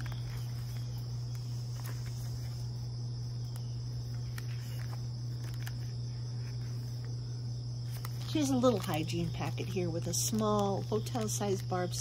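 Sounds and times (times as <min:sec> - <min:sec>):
notepad pages turning: 0:00.0 - 0:07.2, 0:07.8 - 0:12.0
low hum: 0:00.0 - 0:11.0.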